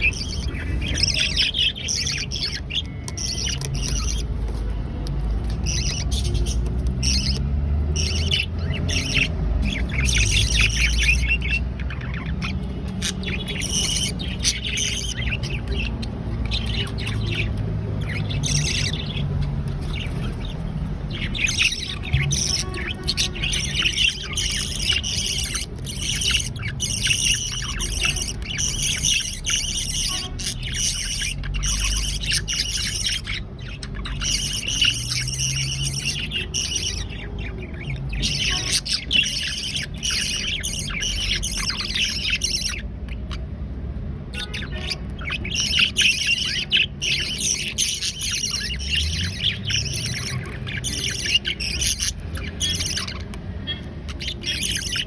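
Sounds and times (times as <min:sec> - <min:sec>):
budgerigars chirping and squawking: 0:00.0 - 0:55.0.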